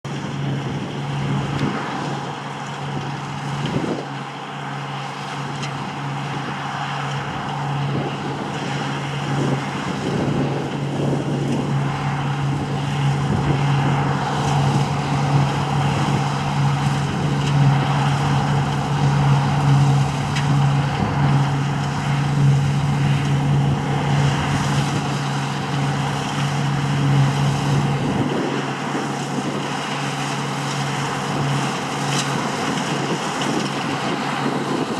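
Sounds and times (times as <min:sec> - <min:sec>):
harvest machinery engine hum: 0:00.0 - 0:34.9.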